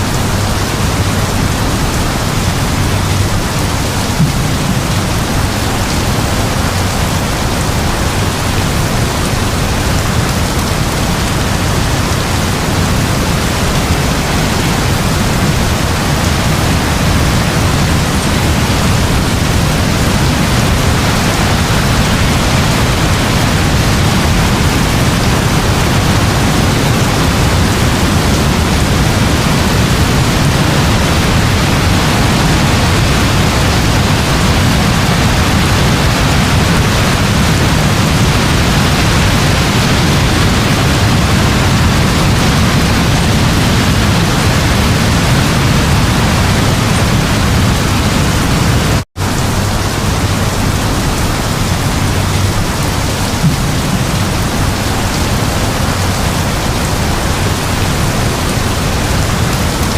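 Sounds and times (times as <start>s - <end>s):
deep rumble: 0.0s - 59.9s
heavy rain falling: 0.0s - 59.9s.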